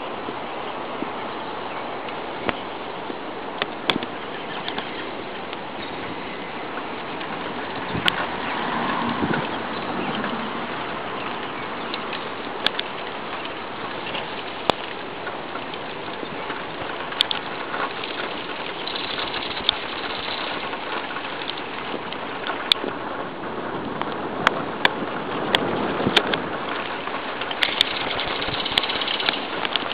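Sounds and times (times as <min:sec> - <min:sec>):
steady rain: 0:00.0 - 0:29.9
raindrops tapping: 0:02.0 - 0:23.3, 0:23.9 - 0:29.9.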